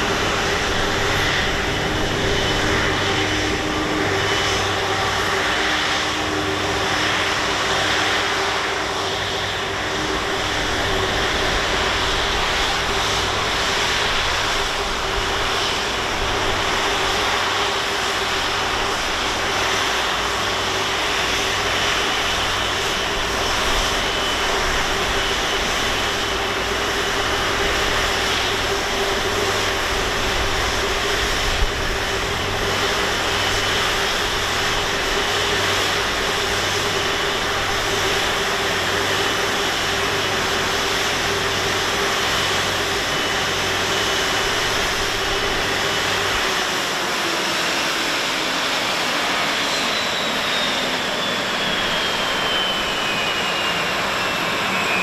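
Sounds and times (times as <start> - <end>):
jet engines whining at idle: 0.0 - 55.0.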